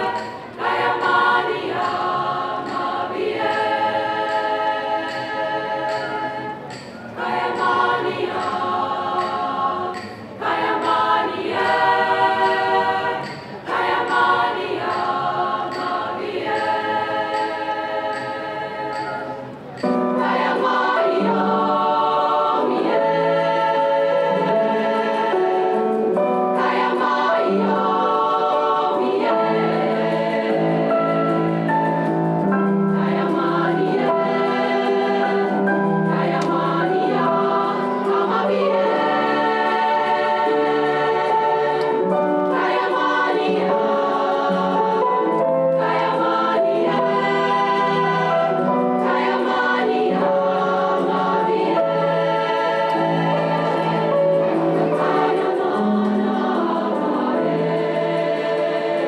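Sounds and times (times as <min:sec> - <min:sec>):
choir of women singing: 0:00.0 - 0:59.0.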